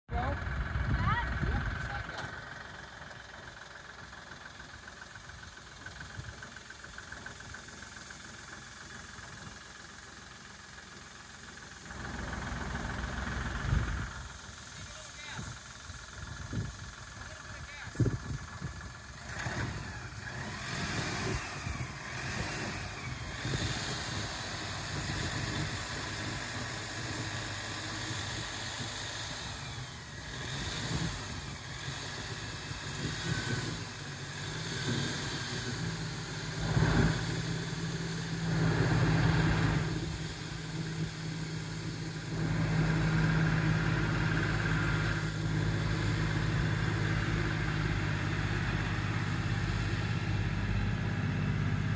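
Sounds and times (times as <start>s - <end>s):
tractor diesel engine running: 0.1s - 51.9s.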